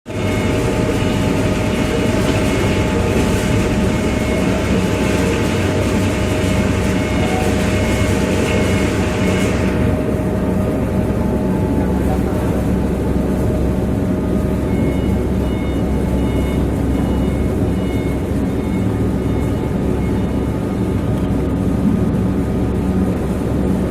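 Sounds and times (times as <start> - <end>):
constant whine: 0.1 - 23.9
heavy machinery engine running: 0.1 - 23.9.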